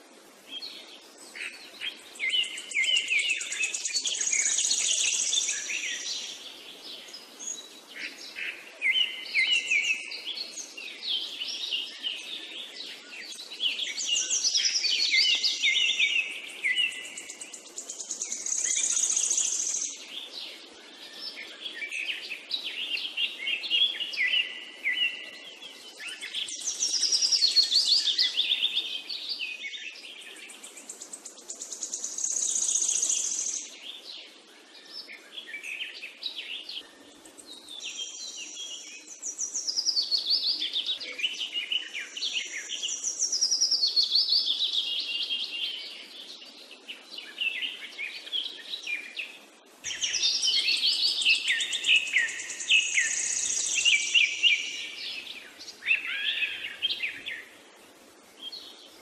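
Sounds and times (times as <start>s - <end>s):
birds chirping and singing: 0.5s - 59.0s.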